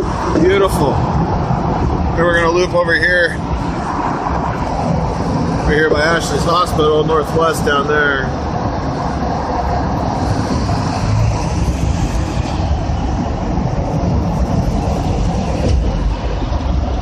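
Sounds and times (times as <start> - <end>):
diesel engine rumbling: 0.0 - 17.0
road noise: 0.0 - 17.0.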